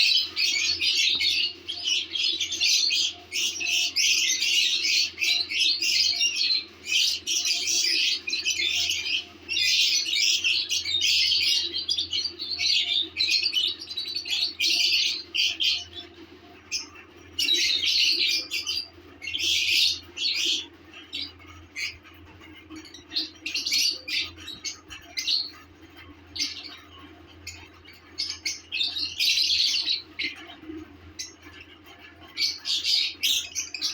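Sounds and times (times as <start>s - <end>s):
lovebirds chirping and squawking: 0.0s - 33.9s
steady low hum: 0.0s - 33.9s.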